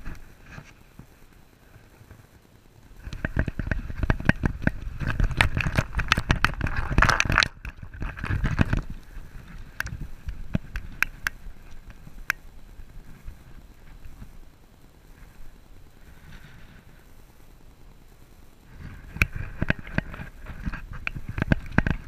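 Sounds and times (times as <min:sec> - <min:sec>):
wind rumble: 0:00.0 - 0:22.0.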